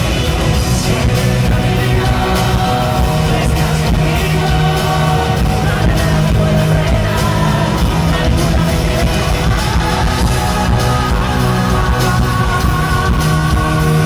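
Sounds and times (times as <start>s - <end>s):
drum beat: 0.0s - 14.0s
live pop-rock band playing: 0.0s - 14.0s
person singing: 0.0s - 14.0s.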